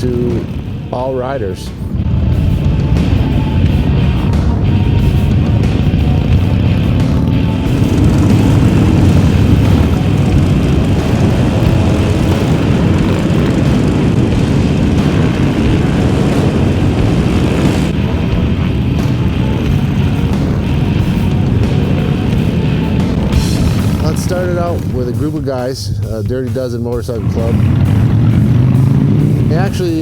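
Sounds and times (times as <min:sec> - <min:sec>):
motorcycle engines droning: 0:00.0 - 0:30.0.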